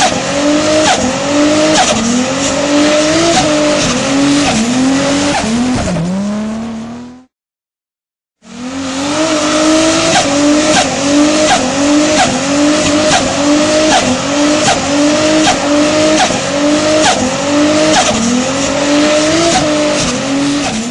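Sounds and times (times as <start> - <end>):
engine revving at high revs: 0.0 - 7.3, 8.4 - 20.9.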